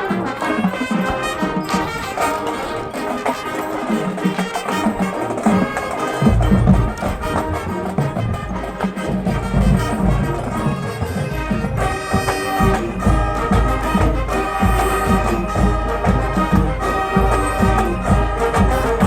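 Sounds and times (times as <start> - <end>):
drumline: 0.0 - 19.0
marching band brass: 0.0 - 19.0.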